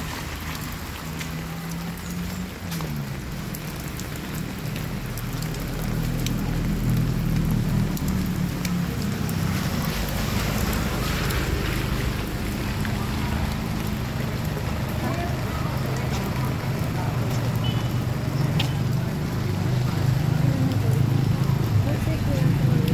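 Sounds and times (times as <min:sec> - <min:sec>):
rain on wet pavement: 0:00.0 - 0:22.9.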